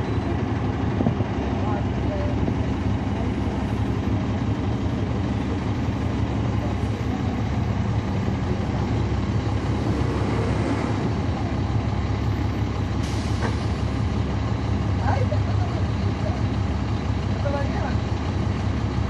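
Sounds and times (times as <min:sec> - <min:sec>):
bus diesel engine humming: 0:00.0 - 0:19.0.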